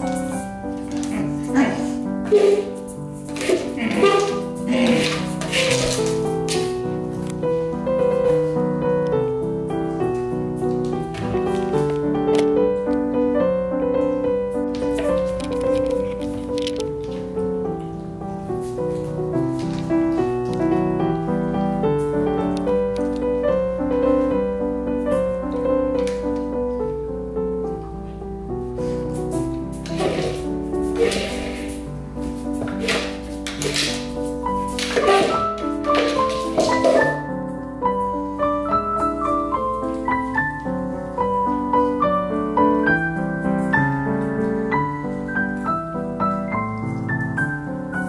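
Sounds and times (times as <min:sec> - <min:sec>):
slow piano melody: 0:00.0 - 0:48.0.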